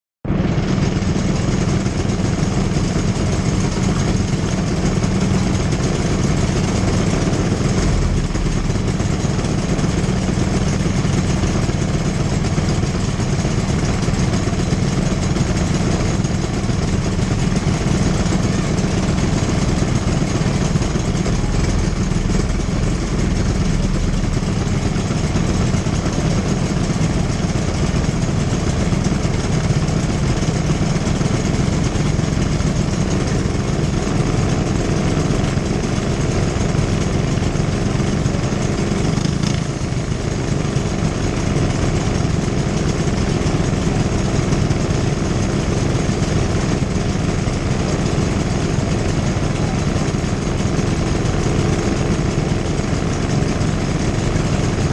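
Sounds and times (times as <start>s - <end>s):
kart engines idling: 0.3s - 54.9s.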